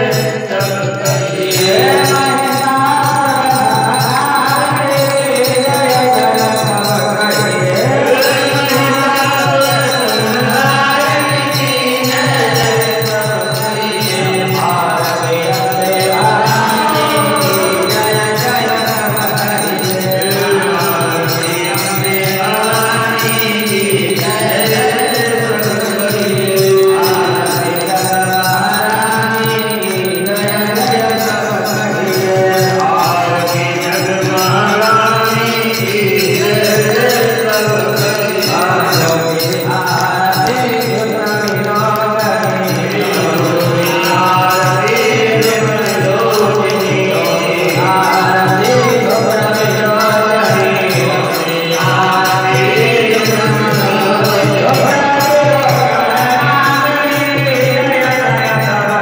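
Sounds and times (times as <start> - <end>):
men singing hymn through microphone: 0.0 - 59.0
rhythmic hand-clapping: 1.2 - 59.0.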